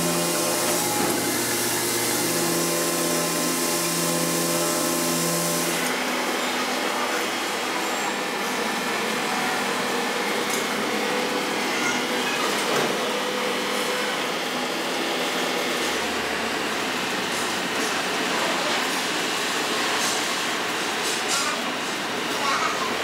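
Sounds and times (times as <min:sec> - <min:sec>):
workshop machinery: 0:00.0 - 0:23.0.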